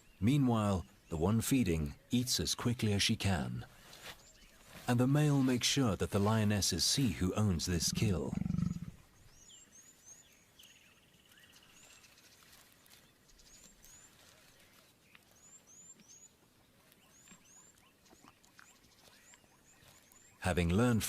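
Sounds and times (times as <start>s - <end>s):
small birds chirping: 0.0s - 5.4s, 6.3s - 21.0s.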